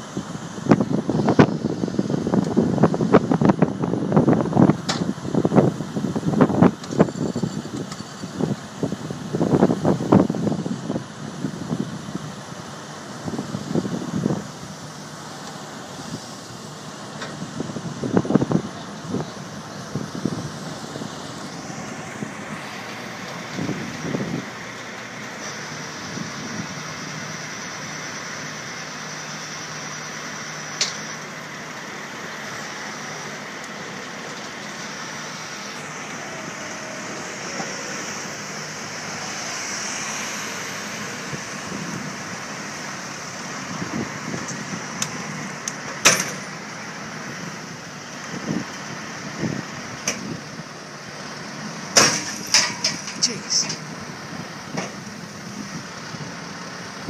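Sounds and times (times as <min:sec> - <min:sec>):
heavy truck running under load: 0:00.0 - 0:57.0
high steady whine: 0:00.0 - 0:57.0.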